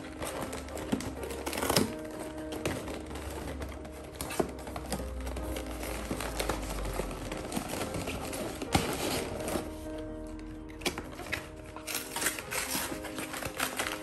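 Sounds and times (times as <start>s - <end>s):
cardboard box crinkling: 0.0s - 14.0s
soft background music: 0.0s - 14.0s.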